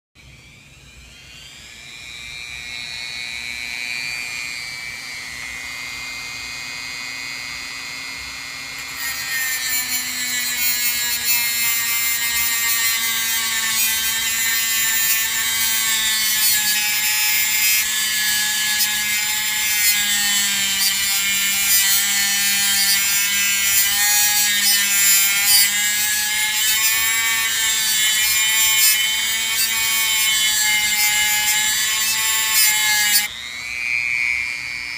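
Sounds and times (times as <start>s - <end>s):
rotary tool whine: 0.2s - 34.9s.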